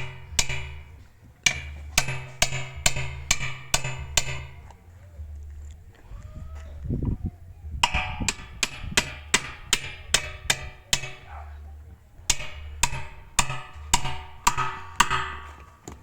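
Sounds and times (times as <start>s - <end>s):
hammer ringing on metal: 0.0s - 4.8s, 7.8s - 15.9s
low hum: 0.0s - 16.0s.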